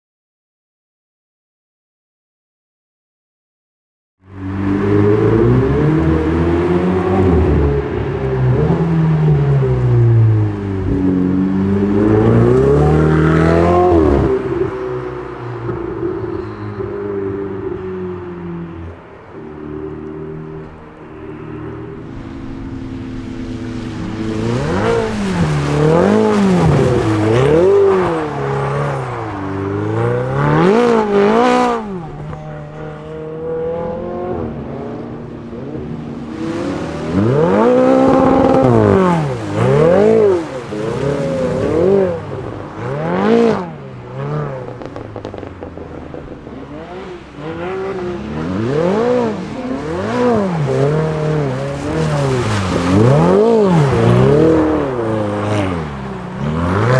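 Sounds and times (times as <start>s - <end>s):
car engine revving: 4.3s - 56.9s.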